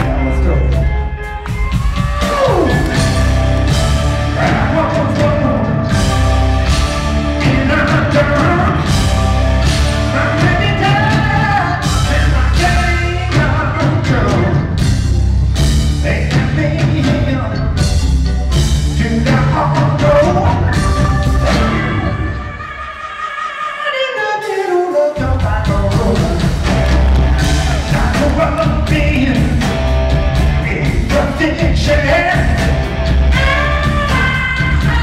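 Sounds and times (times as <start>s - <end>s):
live rock band playing: 0.0s - 23.1s, 24.4s - 35.0s
man singing lead vocal: 2.1s - 14.8s, 16.0s - 17.8s, 18.9s - 29.8s, 30.5s - 35.0s.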